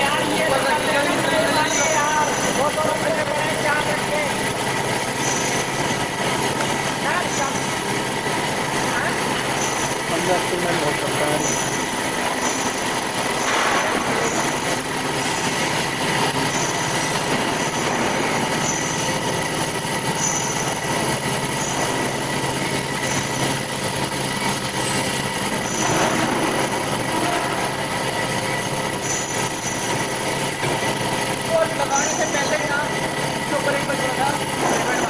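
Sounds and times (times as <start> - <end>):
high-pitched squealing: 0.0 - 35.0
metal-cutting band saw running: 0.0 - 35.0.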